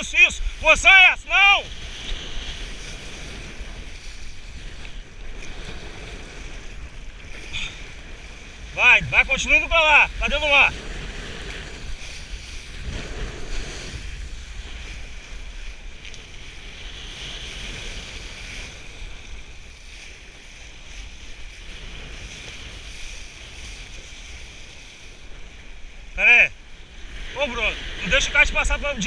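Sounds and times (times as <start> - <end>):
water rushing and splashing: 0.0 - 29.0
wind buffeting microphone: 0.0 - 29.0.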